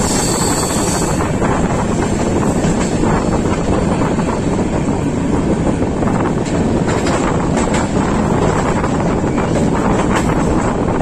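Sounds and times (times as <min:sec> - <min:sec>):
train wheels rumbling on rails: 0:00.0 - 0:11.0
wind noise on microphone: 0:00.0 - 0:11.0.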